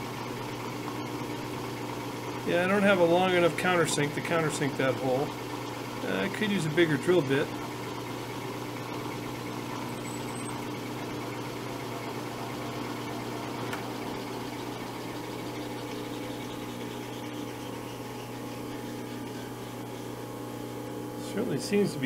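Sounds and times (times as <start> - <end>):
milling machine motor hum: 0.0 - 22.0.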